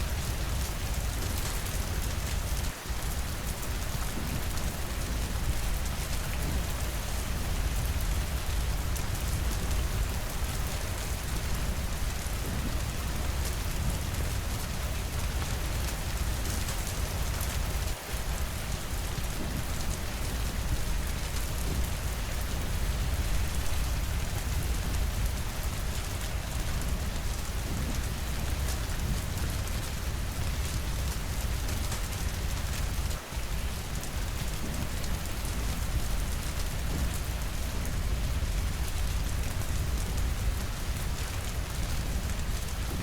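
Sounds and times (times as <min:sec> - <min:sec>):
rain pattering: 0:00.0 - 0:43.0.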